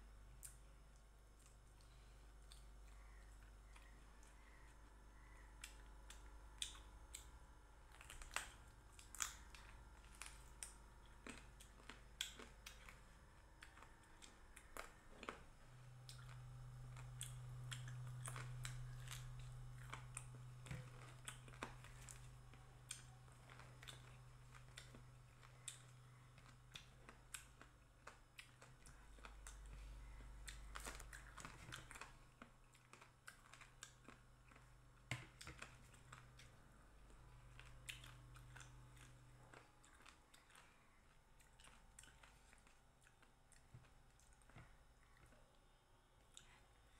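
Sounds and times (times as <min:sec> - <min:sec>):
low steady hum: 0:00.0 - 0:46.9
person chewing food: 0:00.3 - 0:45.6.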